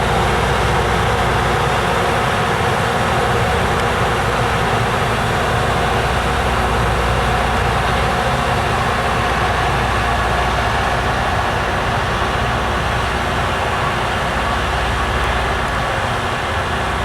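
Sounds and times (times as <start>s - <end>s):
low train rumble: 0.0s - 17.0s
train wheels rushing on rail: 0.0s - 17.0s.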